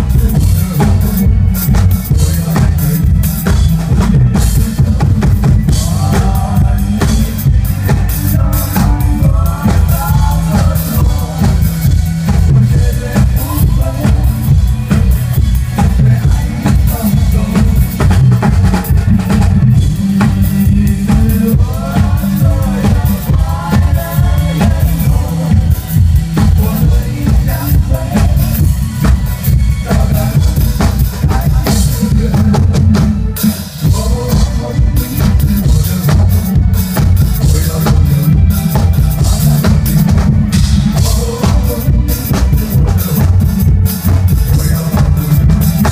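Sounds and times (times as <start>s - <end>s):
drum kit playing: 0.0s - 45.9s
pop backing track: 0.0s - 45.9s.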